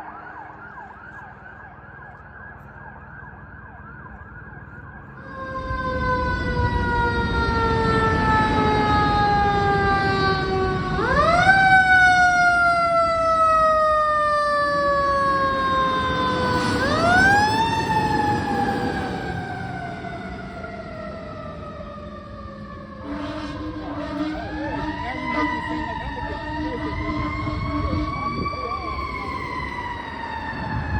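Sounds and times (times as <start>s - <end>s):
fire truck siren wailing: 0.0s - 30.9s
heavy engine and road rumble: 0.0s - 30.9s.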